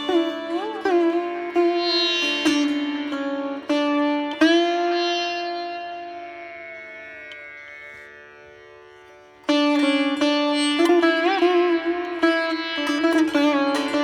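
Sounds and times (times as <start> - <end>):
plucked string instrument: 0.0 - 8.7, 9.4 - 14.0.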